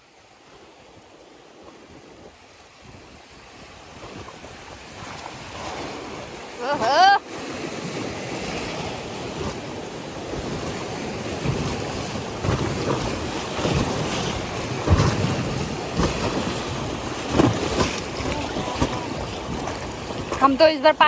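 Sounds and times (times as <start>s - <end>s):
rushing river water: 0.0s - 21.0s
wind buffeting microphone: 0.5s - 21.0s.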